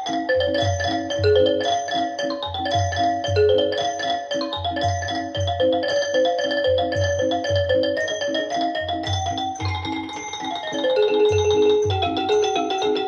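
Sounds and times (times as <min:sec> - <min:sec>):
music over loudspeakers: 0:00.0 - 0:13.0
quick repeating pitched notes: 0:00.0 - 0:13.0.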